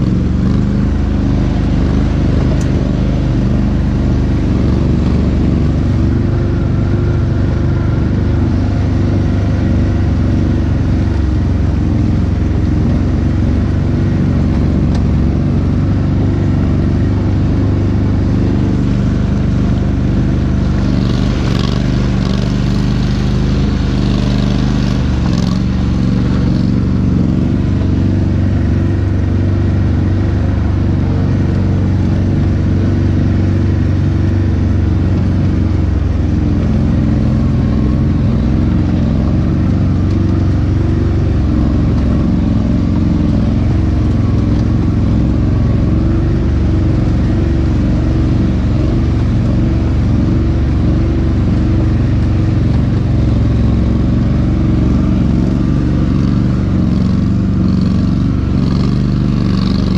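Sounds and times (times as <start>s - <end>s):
all-terrain vehicle engine running: 0.0s - 59.9s.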